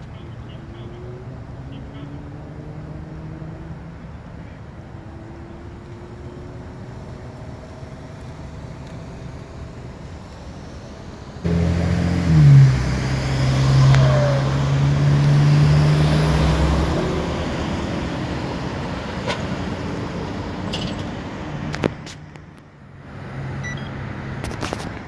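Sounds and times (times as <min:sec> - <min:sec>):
motor vehicle engine running: 0:00.0 - 0:25.0.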